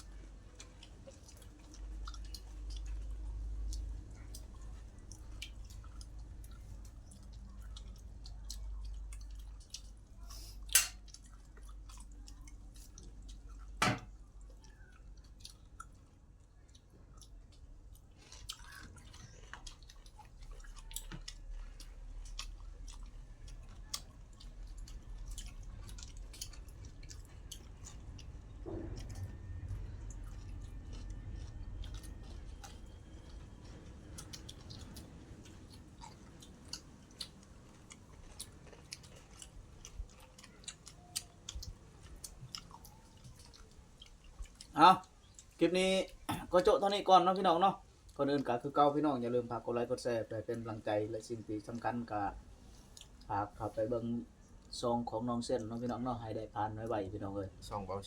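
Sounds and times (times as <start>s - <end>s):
person chewing and eating: 0.0s - 57.9s.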